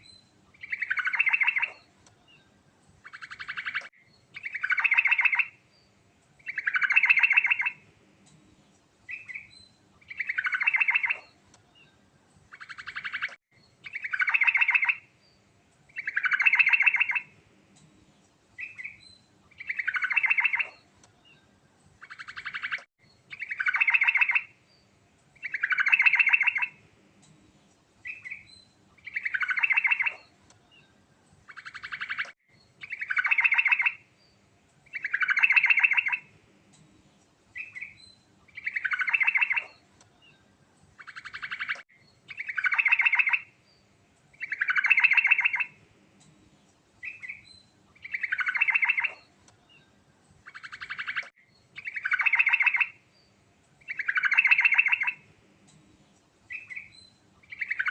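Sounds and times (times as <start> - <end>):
bird singing: 0.0 - 27.4, 28.0 - 57.9.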